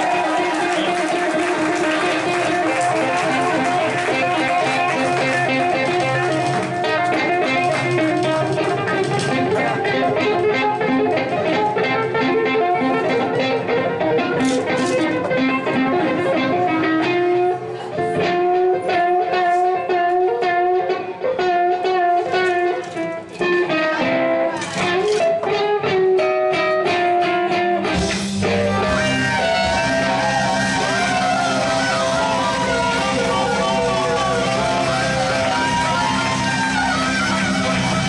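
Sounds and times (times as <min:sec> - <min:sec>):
band with bass: 0:00.0 - 0:38.0
picked electric guitar: 0:00.0 - 0:38.0.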